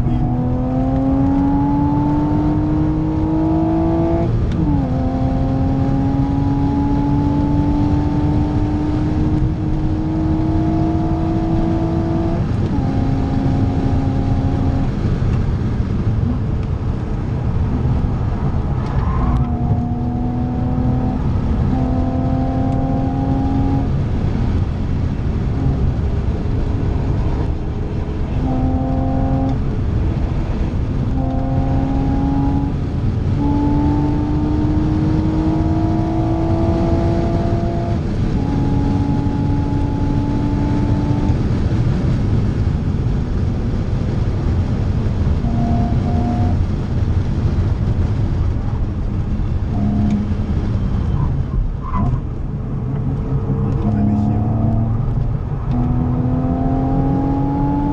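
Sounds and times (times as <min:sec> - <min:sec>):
car engine accelerating: 0:00.0 - 0:57.9
tyre and road noise: 0:00.0 - 0:57.9.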